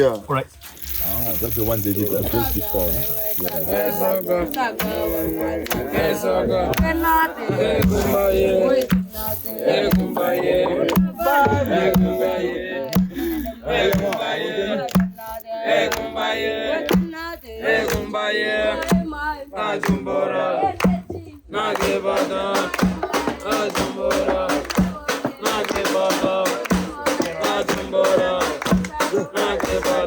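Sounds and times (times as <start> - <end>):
group singing a chant: 2.0 - 30.0
low thuds keeping the beat: 2.0 - 30.0.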